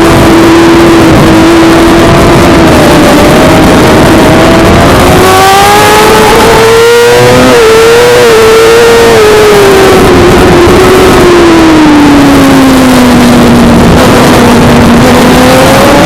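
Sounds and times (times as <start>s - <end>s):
loud rushing noise: 0.0s - 16.0s
motorcycle engine revving high: 0.0s - 16.0s.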